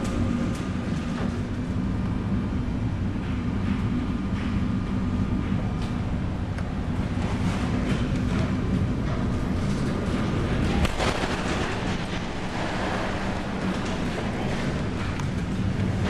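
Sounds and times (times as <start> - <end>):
ship engines droning: 0.0 - 16.0.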